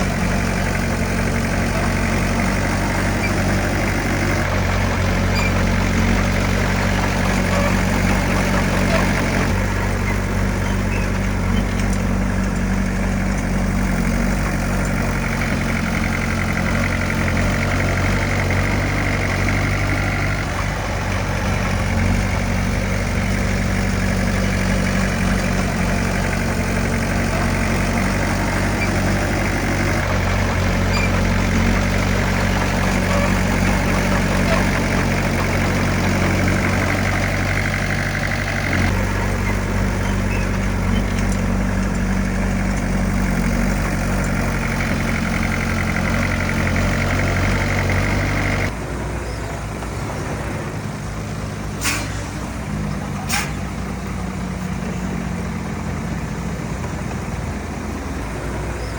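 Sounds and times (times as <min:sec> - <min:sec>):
heavy machine diesel engine running: 0:00.0 - 0:58.9.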